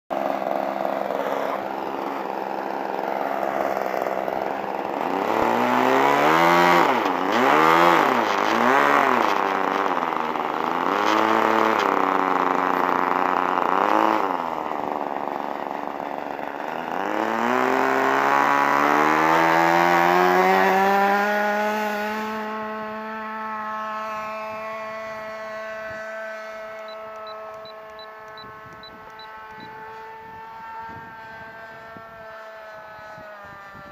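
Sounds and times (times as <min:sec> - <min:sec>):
model plane engine revving: 0:00.1 - 0:33.9.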